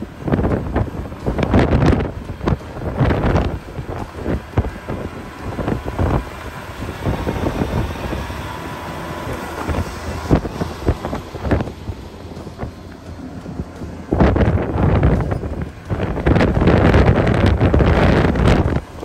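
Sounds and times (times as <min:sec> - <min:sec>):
steady wind rush: 0:00.0 - 0:19.0
wind gusts buffeting microphone: 0:00.0 - 0:19.0.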